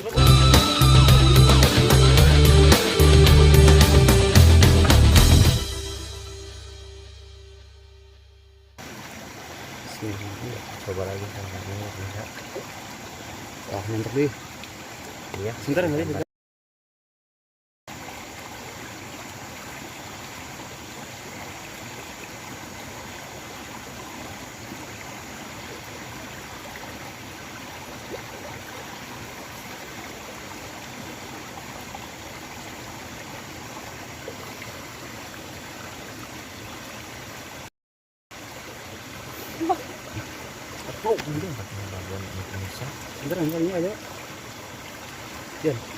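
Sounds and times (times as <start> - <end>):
small river flowing: 0.0 - 7.3, 8.8 - 16.2, 17.9 - 37.7, 38.3 - 45.9.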